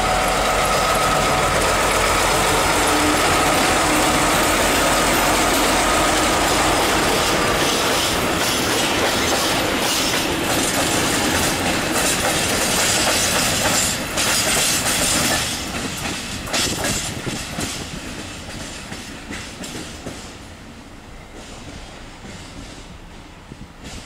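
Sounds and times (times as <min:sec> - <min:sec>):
train wheels clacking over rail joints: 0:00.0 - 0:20.5, 0:21.2 - 0:24.0.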